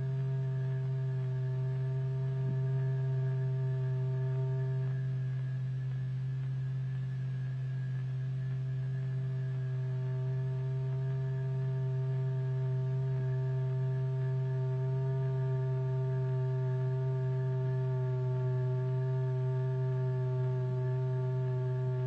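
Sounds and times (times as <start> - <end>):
steady low pure tone: 0.0 - 22.0.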